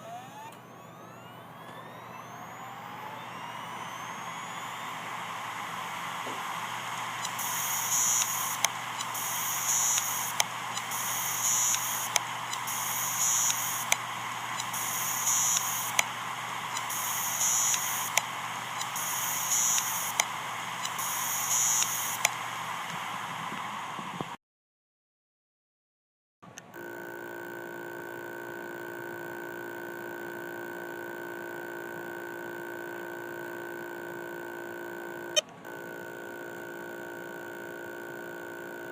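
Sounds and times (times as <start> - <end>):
hard disk clicks and buzzing: 0.0 - 24.4, 26.7 - 38.9
hard disk drive whirring: 0.0 - 24.4, 26.7 - 38.9.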